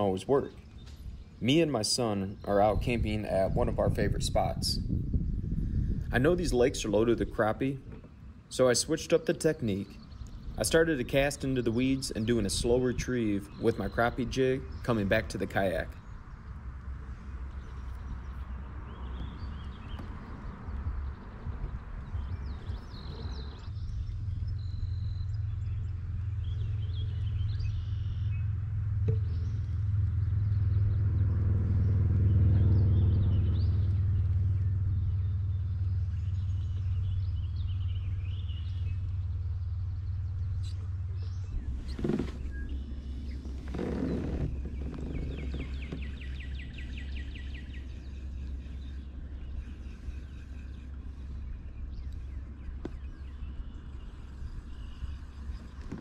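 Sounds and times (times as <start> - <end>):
low rumble: 0.0 - 8.7, 9.6 - 56.0
birds chirping: 0.0 - 56.0
songbird trill: 0.0 - 56.0.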